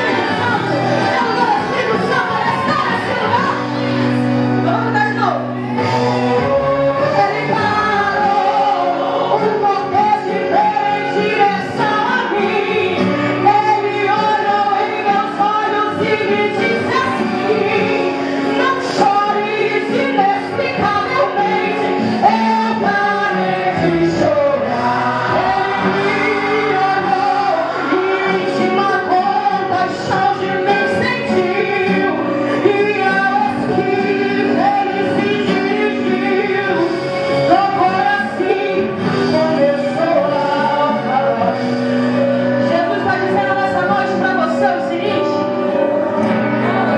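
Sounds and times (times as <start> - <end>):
electric guitar accompaniment: 0.0 - 46.9.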